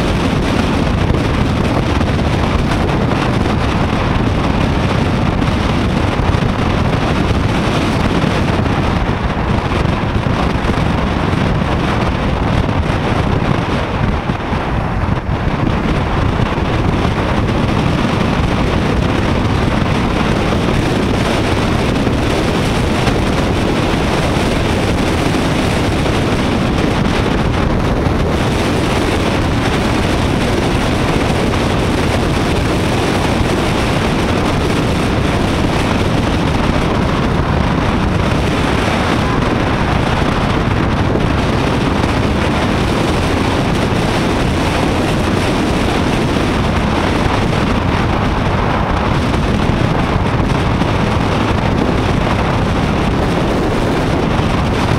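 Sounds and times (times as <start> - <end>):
motorcycle engine running: 0.0 - 54.9
road noise: 0.0 - 54.9
wind noise over microphone: 0.0 - 54.9.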